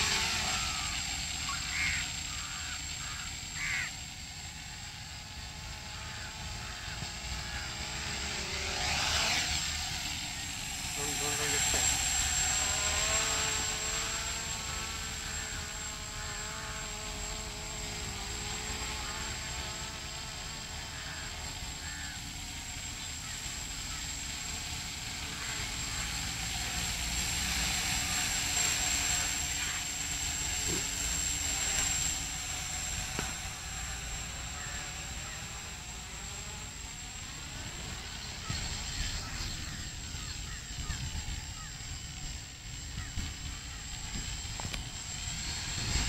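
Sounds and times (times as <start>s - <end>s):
drone propellers buzzing: 0.0s - 46.0s.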